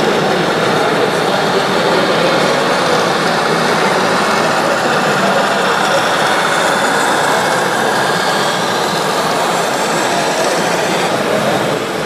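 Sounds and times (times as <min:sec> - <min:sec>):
toy truck engine sound: 0:00.0 - 0:12.0.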